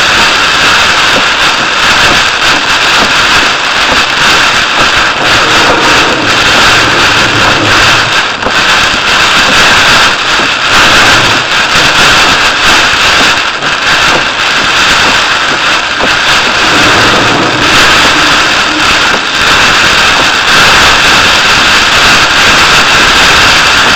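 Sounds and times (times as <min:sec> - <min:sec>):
heavy rain on moving vehicle: 0:00.0 - 0:23.9.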